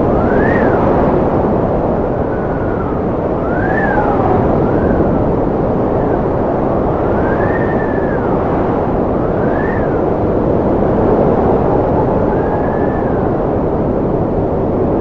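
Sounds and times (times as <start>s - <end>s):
strong wind rushing: 0.0s - 15.0s
wind whistling howl: 0.0s - 15.0s.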